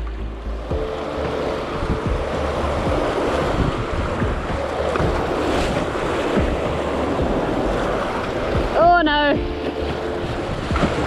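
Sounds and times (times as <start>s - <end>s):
river rapids rushing and splashing: 0.0s - 11.0s
wind buffeting microphone: 0.6s - 11.0s.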